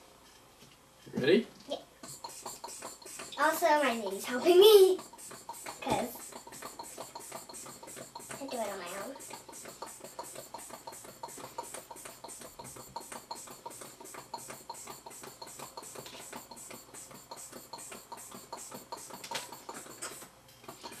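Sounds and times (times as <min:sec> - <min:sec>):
hand pump puffs of air: 0:02.0 - 0:21.0.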